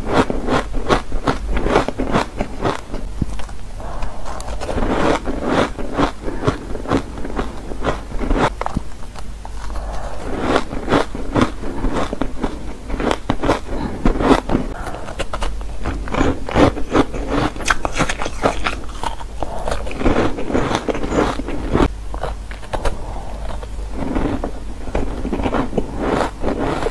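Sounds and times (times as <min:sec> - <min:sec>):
shaved ice being chewed: 0:00.0 - 0:26.9.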